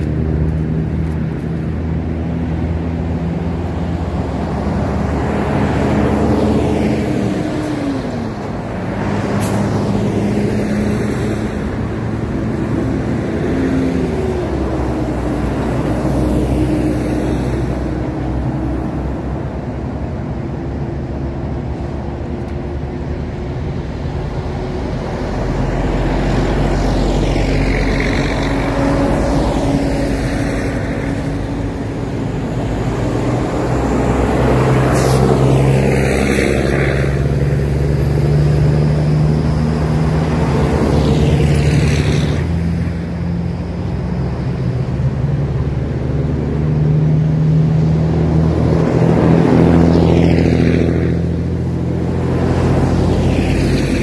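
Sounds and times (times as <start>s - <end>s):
buses driving past: 0.0s - 54.0s.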